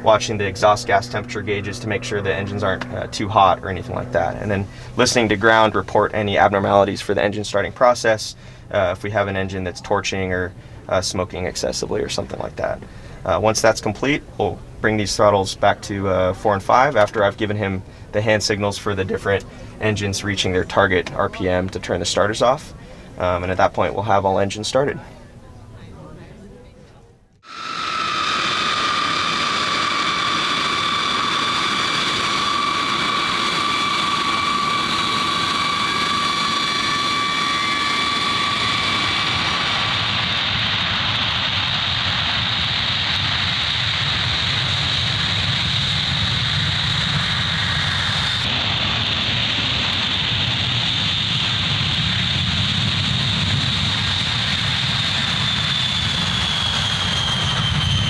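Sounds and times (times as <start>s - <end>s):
jet engines roaring: 0.0s - 26.4s, 27.4s - 58.0s.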